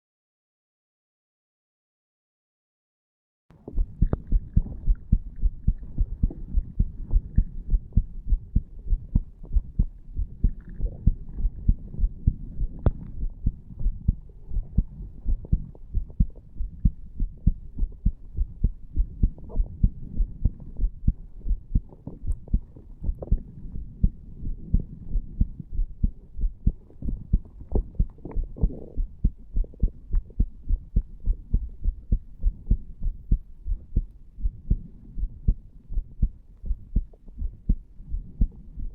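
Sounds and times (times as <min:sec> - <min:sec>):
heartbeat thumps: 0:03.6 - 0:38.9.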